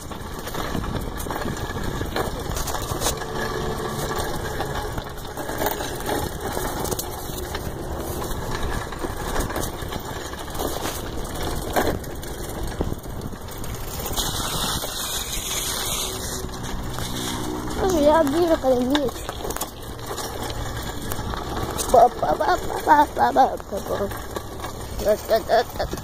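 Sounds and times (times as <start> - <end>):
bicycle rolling noise: 0.0 - 26.0.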